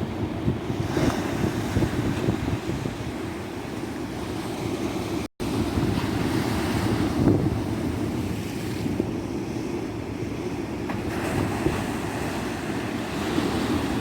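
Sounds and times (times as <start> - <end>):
ocean surf washing onto beach: 0.0 - 14.0
wind buffeting microphone: 0.0 - 14.0.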